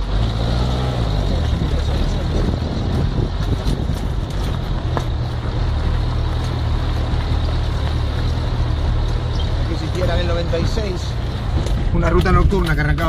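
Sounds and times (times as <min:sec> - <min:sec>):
engine drone: 0:00.0 - 0:12.2.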